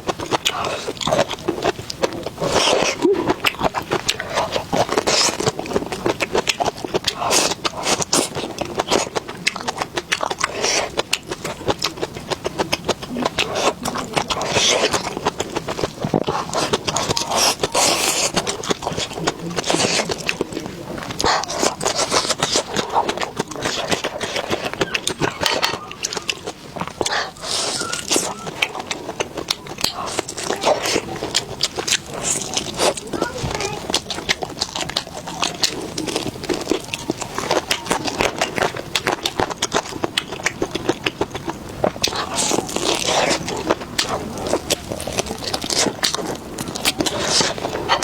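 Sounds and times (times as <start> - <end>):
chewing and mouth smacks: 0.0 - 48.0
crunchy bursts: 0.0 - 48.0.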